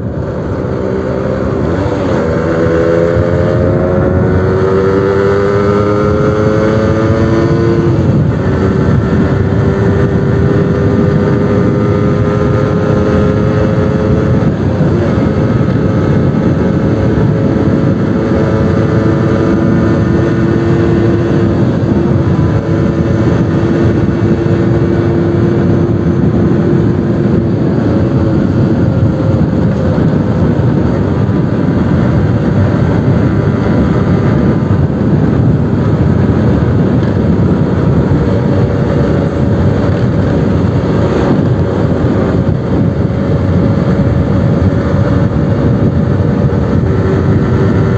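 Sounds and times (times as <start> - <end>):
two-stroke engine revving: 0.0 - 47.9.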